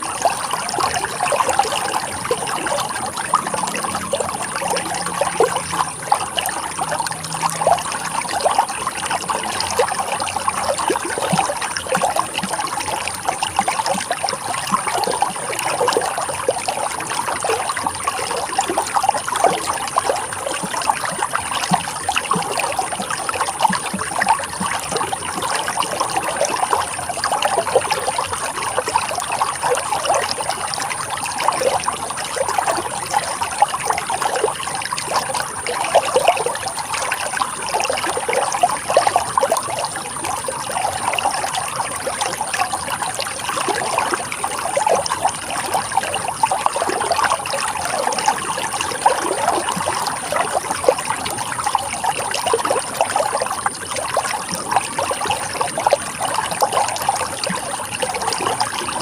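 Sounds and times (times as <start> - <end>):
water splashing over rocks: 0.0 - 59.0.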